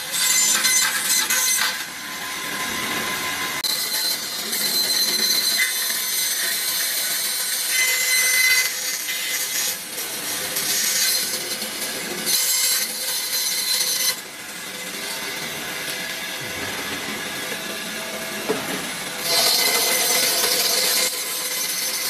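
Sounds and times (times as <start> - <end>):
band saw cutting metal: 0.0 - 22.0.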